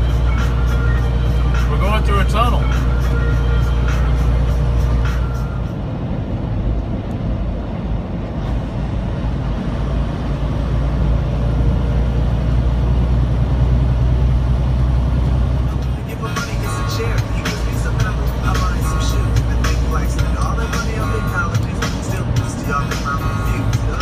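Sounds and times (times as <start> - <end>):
truck engine and road drone: 0.0 - 24.0.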